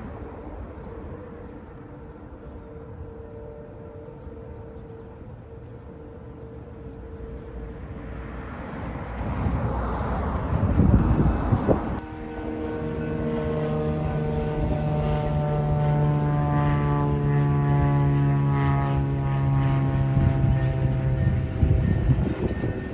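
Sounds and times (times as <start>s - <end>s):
low engine drone: 0.0s - 22.9s.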